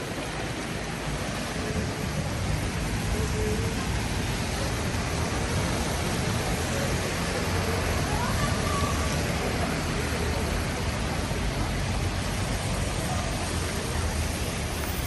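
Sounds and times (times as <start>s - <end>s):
faint passing voices: 0.0s - 15.0s
rain hiss: 0.0s - 15.0s
wet traffic rumble: 0.0s - 15.0s.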